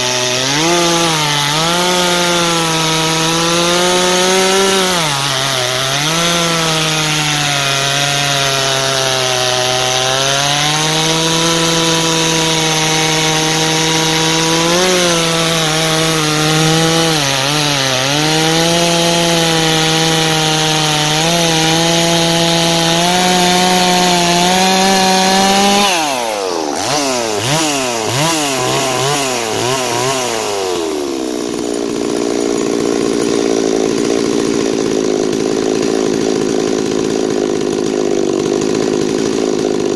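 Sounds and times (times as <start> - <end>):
chainsaw cutting log: 0.0 - 39.9
chainsaw engine revving freely: 0.0 - 39.9.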